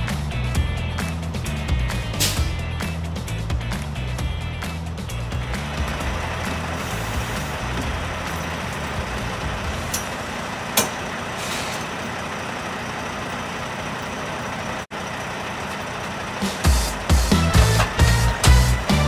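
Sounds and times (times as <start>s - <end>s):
diesel truck idling: 0.0s - 19.0s.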